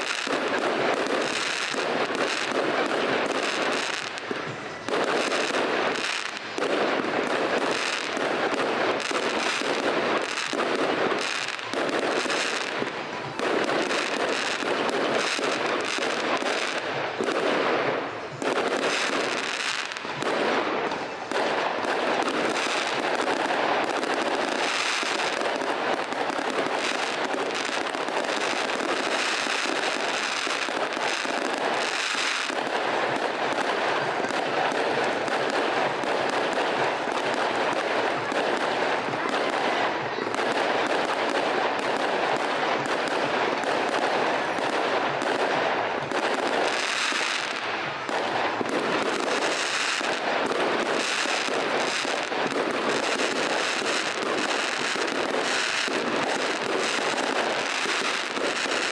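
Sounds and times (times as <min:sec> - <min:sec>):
fireworks launching and bursting: 0:00.0 - 0:58.9.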